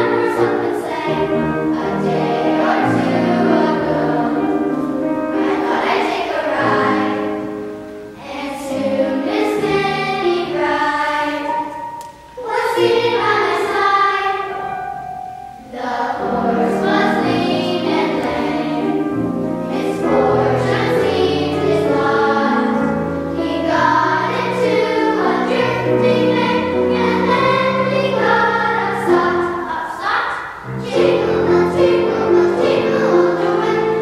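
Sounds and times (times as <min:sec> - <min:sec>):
girls choir singing: 0:00.0 - 0:34.0
piano: 0:00.0 - 0:34.0.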